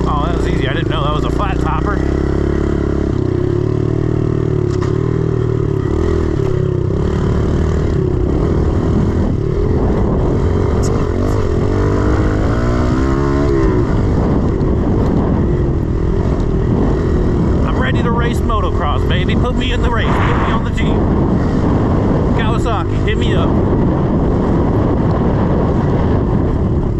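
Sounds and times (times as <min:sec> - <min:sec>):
motorbike engine revving: 0:00.0 - 0:26.9.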